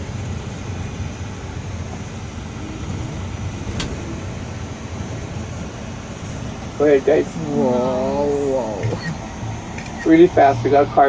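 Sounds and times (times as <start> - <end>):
vehicle rumble inside cabin: 0.0 - 11.0.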